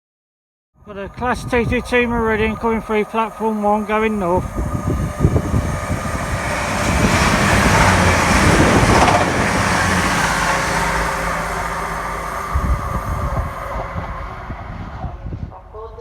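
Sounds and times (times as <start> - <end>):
train engine drone: 0.8 - 16.0
rush of train wheels and air: 1.0 - 15.6.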